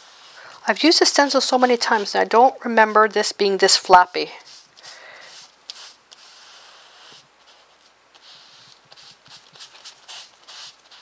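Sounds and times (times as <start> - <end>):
paint brush scratchy rustles: 0.0 - 11.0.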